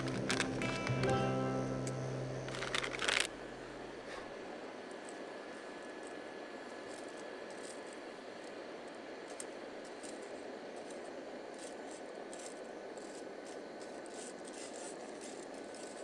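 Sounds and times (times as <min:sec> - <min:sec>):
gas stove burning: 0:00.0 - 0:16.0.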